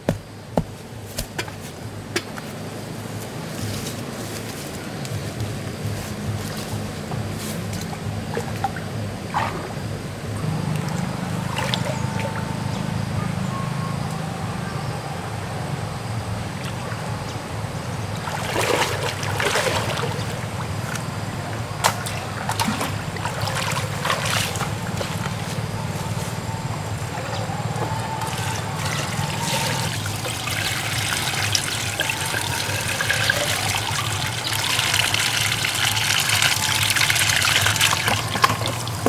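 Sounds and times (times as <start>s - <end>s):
water splashing: 0.0s - 13.2s, 15.0s - 39.0s
water pump engine droning: 0.0s - 39.0s.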